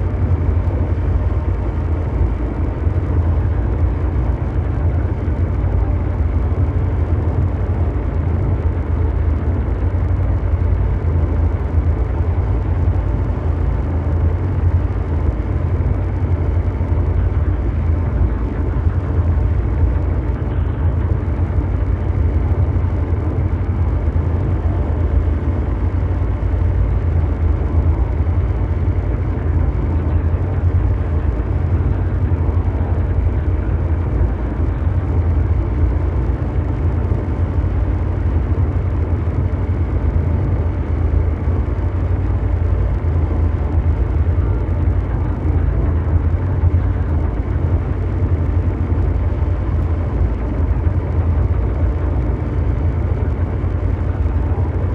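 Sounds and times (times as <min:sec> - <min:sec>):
deep mechanical drone: 0:00.0 - 0:54.9.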